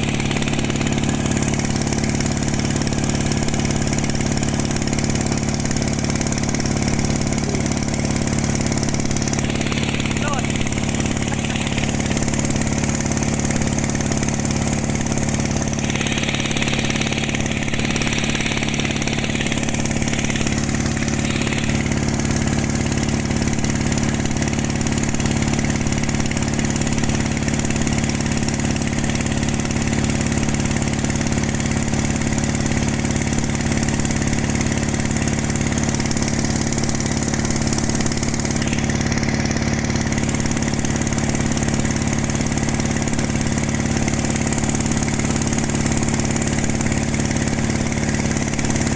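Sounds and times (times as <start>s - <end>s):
boat diesel engine running: 0.0s - 48.9s.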